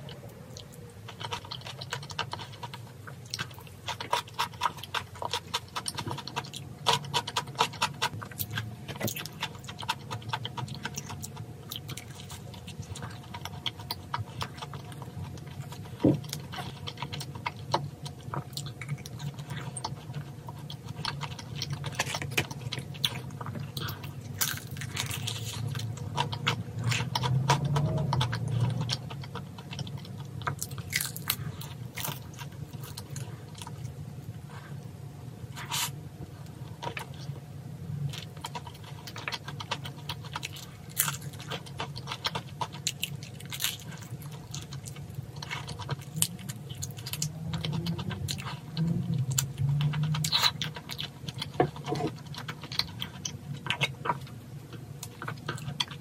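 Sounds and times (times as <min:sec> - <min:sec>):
chewing and crunching fried chicken: 0:00.0 - 0:56.0
faint low hum: 0:00.0 - 0:56.0.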